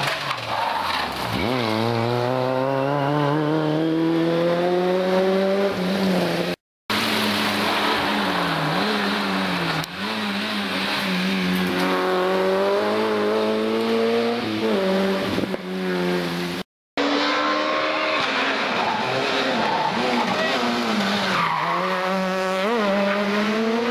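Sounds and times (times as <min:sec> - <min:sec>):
rally car engines accelerating: 0:01.1 - 0:23.9.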